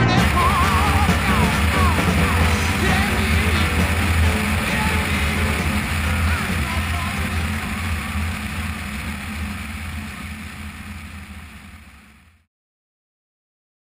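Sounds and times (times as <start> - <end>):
airplane engine droning: 0.0 - 12.5.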